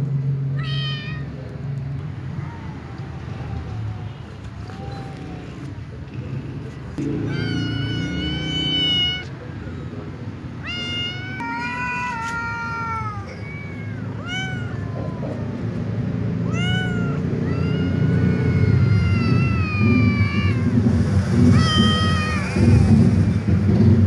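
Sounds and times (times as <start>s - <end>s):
cats meowing and yowling: 0.5s - 5.9s, 7.0s - 23.6s.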